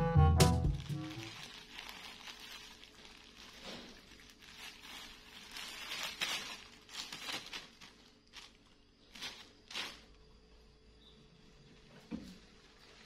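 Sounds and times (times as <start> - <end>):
plastic raincoat crinkling: 0.6 - 10.2, 11.7 - 13.0.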